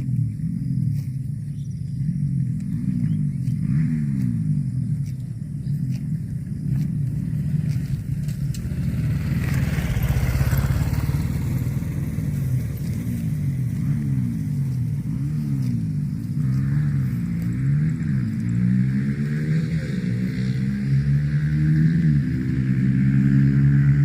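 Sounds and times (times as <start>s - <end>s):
motor engine running: 0.0s - 24.0s.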